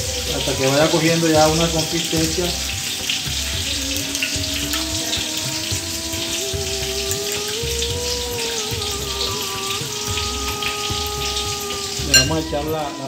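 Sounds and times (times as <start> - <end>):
tomatoes sizzling in oil: 0.0 - 13.0.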